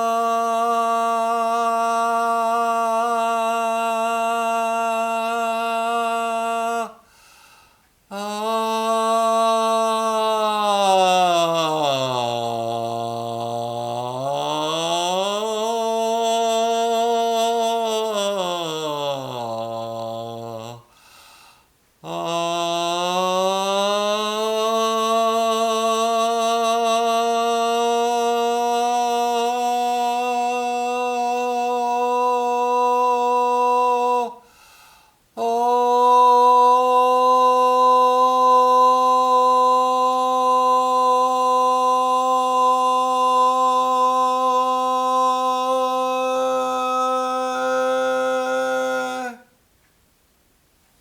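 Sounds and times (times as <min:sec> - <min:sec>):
man's sustained vocal hum: 0:00.0 - 0:49.6.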